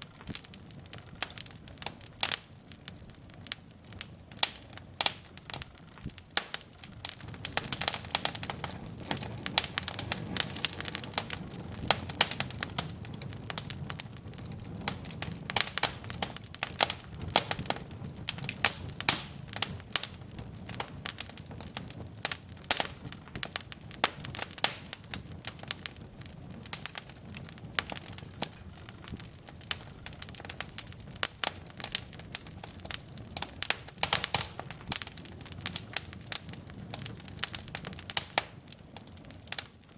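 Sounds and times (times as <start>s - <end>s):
burning logs crackling and popping: 0.0s - 39.9s
low rumble of flames: 0.0s - 39.9s.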